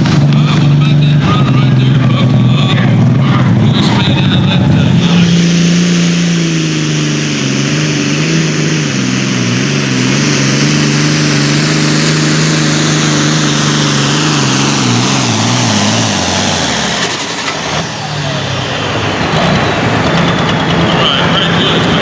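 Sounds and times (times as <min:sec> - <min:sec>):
vehicle engine running under load: 0:00.0 - 0:22.0.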